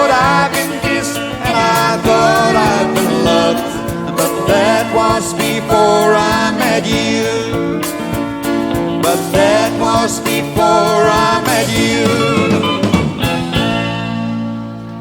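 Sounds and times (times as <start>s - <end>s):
sliding melody line: 0.0s - 7.9s, 8.8s - 14.3s
drums steady beat: 0.0s - 14.3s
bass: 0.0s - 15.0s
guitars: 0.0s - 15.0s
piano: 0.0s - 15.0s.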